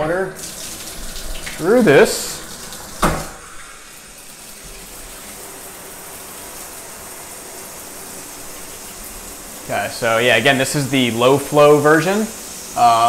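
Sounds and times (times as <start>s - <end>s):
water spraying from shower head: 0.4s - 13.0s.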